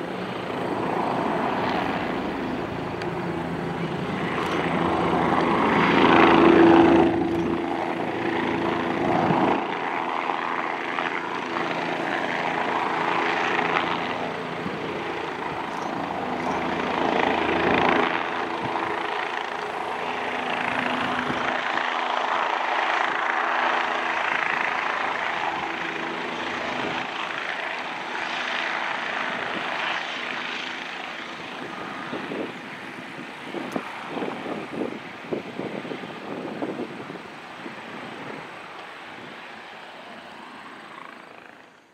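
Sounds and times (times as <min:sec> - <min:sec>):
helicopter hovering: 0:00.0 - 0:41.9.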